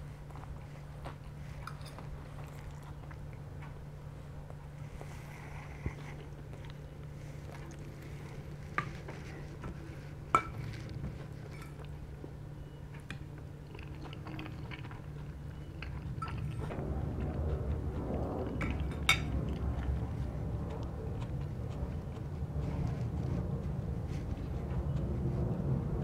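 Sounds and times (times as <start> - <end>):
chewing with wet mouth sounds: 0.0 - 26.0
low hum: 0.0 - 26.0.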